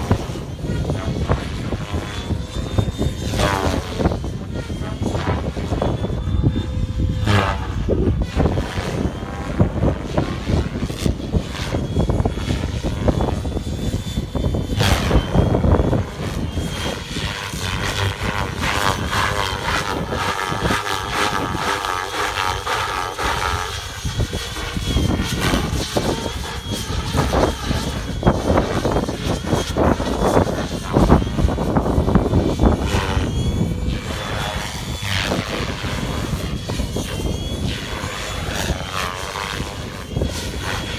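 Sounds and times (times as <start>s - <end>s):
rc helicopter rotor and motor whine: 0.0s - 40.9s
wind buffeting on microphone: 0.0s - 40.9s.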